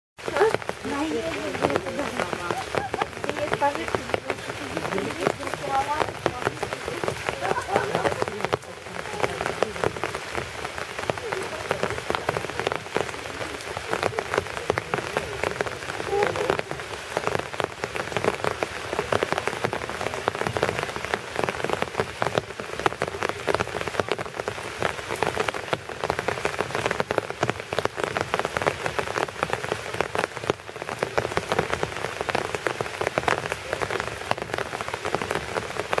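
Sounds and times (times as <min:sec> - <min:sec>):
rain on hard surface: 0:00.2 - 0:36.0.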